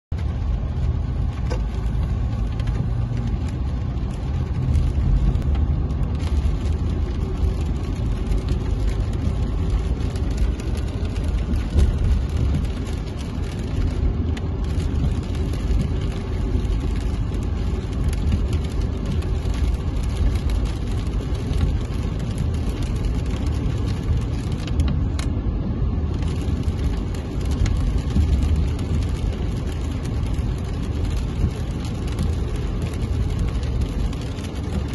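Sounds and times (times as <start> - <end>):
engine and tyre rumble: 0.0 - 34.9
hiss of spray and rain: 0.2 - 34.9.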